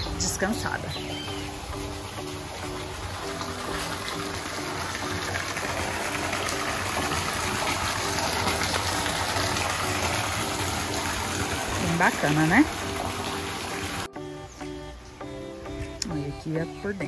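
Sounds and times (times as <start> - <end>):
water gushing: 0.0 - 14.1
faint low melody music: 0.0 - 17.0.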